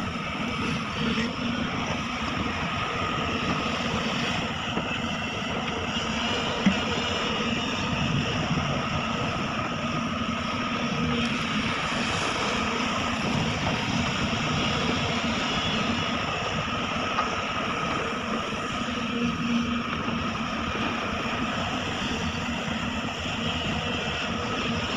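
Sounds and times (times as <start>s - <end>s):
excavator diesel engine running: 0.0s - 24.9s
faint steady whine: 0.0s - 24.9s.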